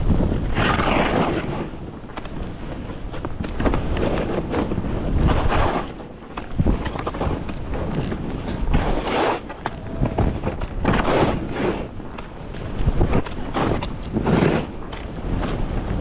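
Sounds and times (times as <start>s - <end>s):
skis scraping over snow: 0.0s - 16.0s
wind buffeting microphone: 0.0s - 16.0s.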